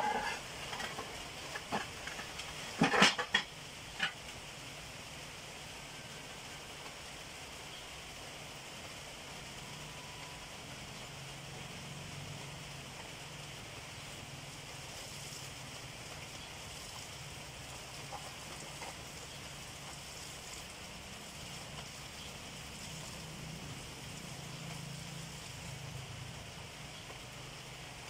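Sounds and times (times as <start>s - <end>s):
even hiss: 0.0s - 28.0s.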